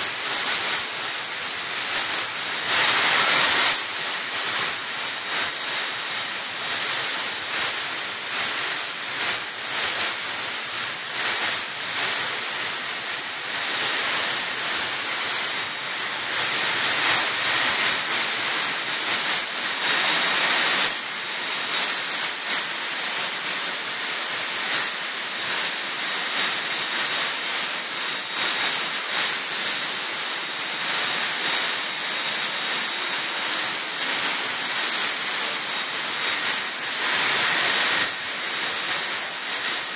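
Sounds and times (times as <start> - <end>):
high thin whine: 0.0 - 39.9
laser cutter rushing noise: 0.0 - 39.9.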